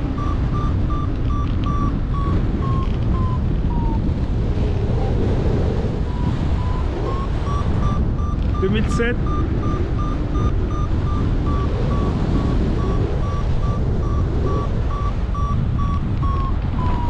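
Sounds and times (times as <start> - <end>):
variometer beeping: 0.0 - 17.0
wind rushing on microphone: 0.0 - 17.0.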